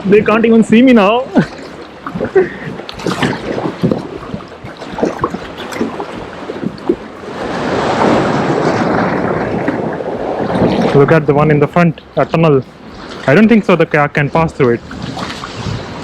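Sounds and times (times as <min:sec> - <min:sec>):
kayak paddle splashing: 0:00.0 - 0:16.0
sea water rushing: 0:00.0 - 0:16.0
water slapping against kayak: 0:00.0 - 0:16.0
wind noise on microphone: 0:00.0 - 0:16.0.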